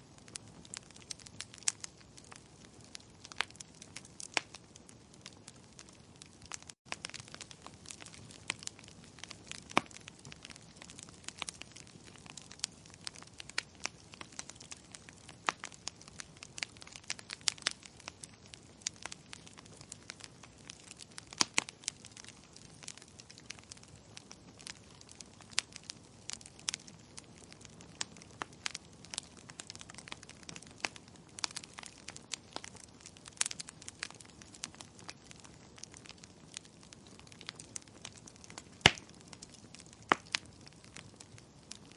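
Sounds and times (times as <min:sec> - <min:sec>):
firewood crackling and popping: 0:00.0 - 0:41.9
soft hiss of flames: 0:00.0 - 0:41.9.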